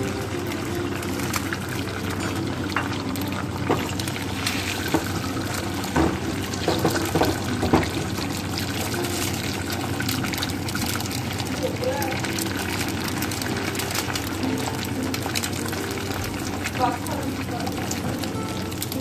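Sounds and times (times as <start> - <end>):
egg sizzling in hot oil: 0.0 - 19.0.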